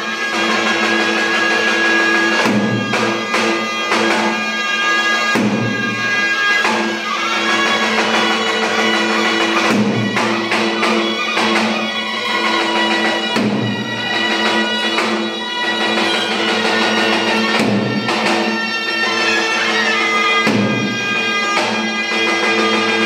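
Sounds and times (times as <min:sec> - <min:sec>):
reedy wind instrument melody: 0:00.0 - 0:23.0.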